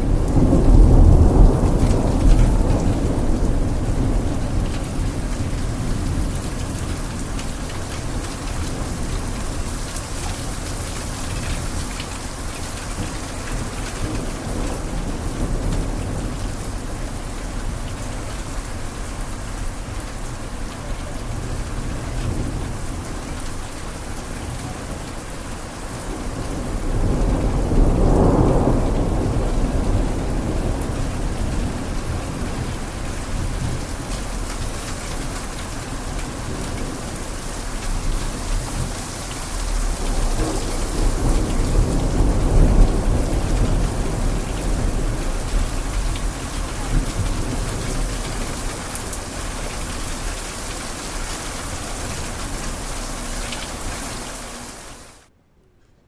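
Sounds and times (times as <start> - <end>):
rain pattering on window: 0.0 - 55.3.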